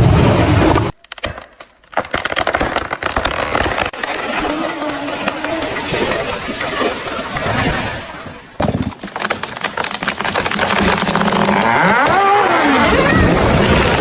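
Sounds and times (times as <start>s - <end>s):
tree cracking and crashing: 0.9s - 14.0s.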